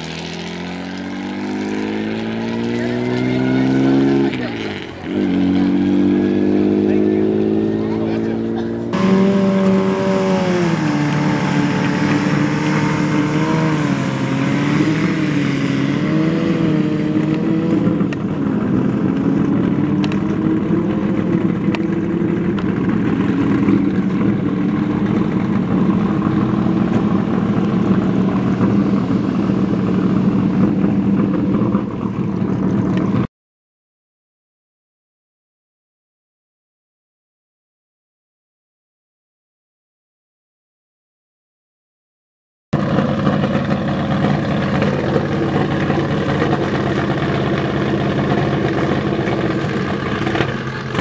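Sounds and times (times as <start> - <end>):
racing engine running hard: 0.0 - 33.3, 42.8 - 51.0.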